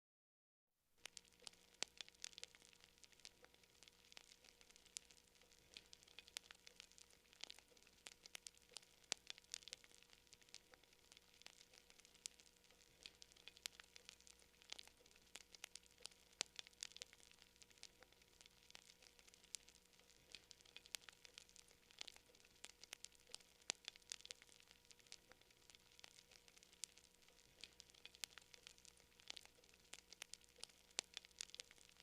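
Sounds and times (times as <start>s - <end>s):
campfire crackling: 1.0s - 32.0s.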